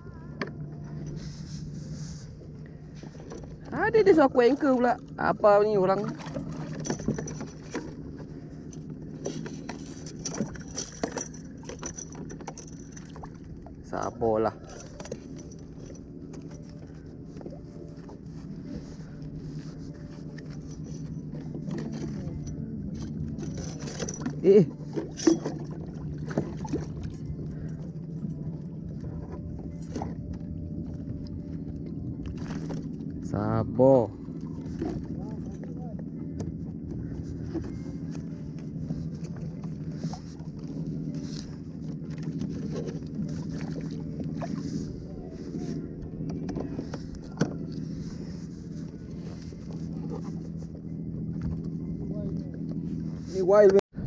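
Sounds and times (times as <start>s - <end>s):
steady low hum: 0.0s - 54.0s
water: 0.0s - 54.0s
wind: 0.0s - 54.0s.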